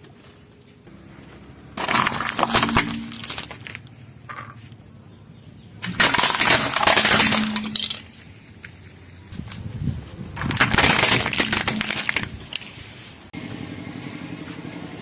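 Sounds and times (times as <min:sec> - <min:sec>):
items crunching under car tyre: 0:00.0 - 0:13.2.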